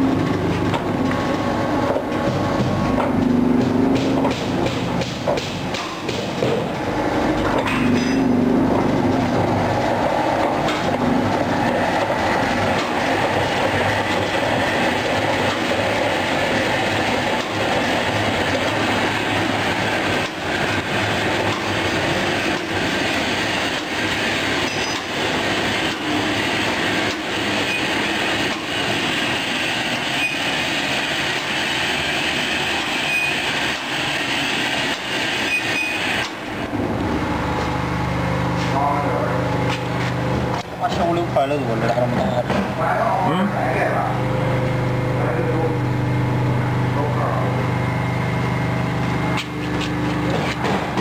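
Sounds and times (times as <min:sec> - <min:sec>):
pleating machine running: 0:00.0 - 0:51.0.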